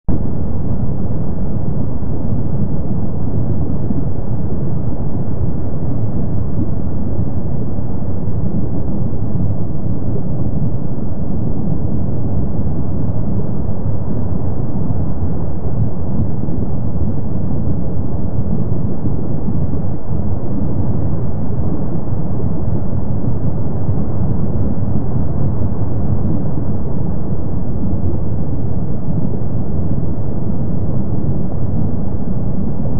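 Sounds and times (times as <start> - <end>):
low rumble of lava lake: 0.1 - 32.9.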